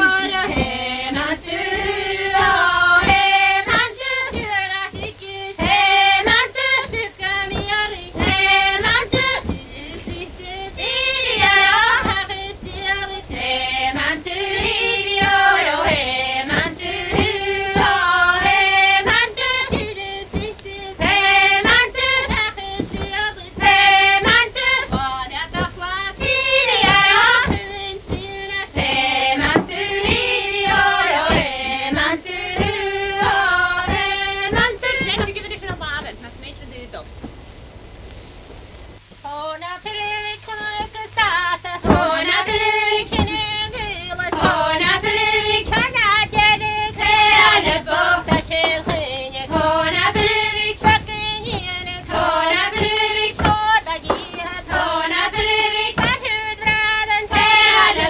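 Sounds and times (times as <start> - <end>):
music with high singing voice: 0.0 - 35.4, 39.0 - 58.0.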